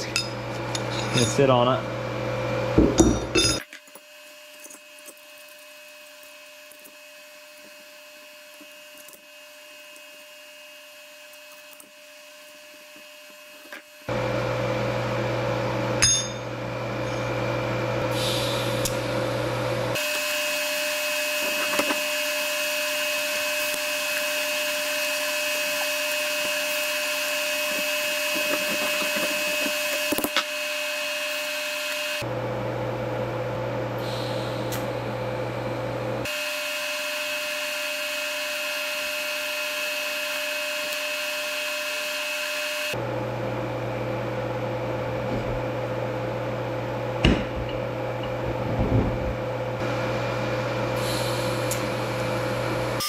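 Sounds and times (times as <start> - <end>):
workshop machinery hum and hiss: 0.0 - 53.0.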